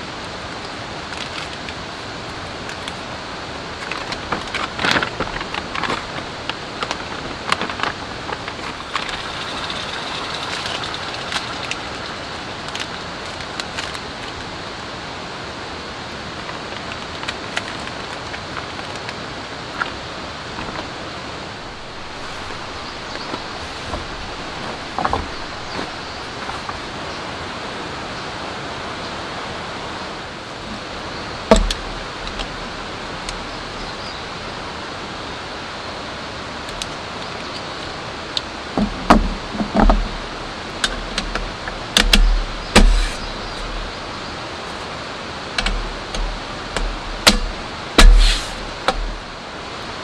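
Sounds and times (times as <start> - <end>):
rain hissing: 0.0 - 28.1, 28.8 - 50.0.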